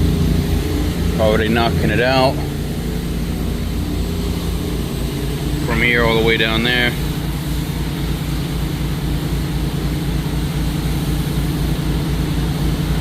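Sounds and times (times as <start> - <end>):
gas engine droning: 0.0 - 13.0.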